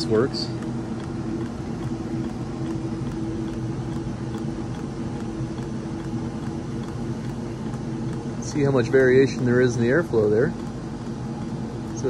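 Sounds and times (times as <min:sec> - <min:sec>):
fan motor hum: 0:00.0 - 0:12.0.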